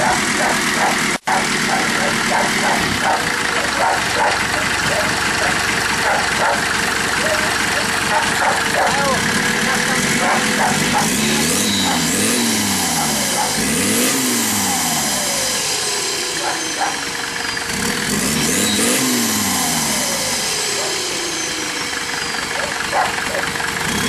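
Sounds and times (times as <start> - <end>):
engine revving: 0.0 - 24.0
turbo whine: 0.0 - 24.0.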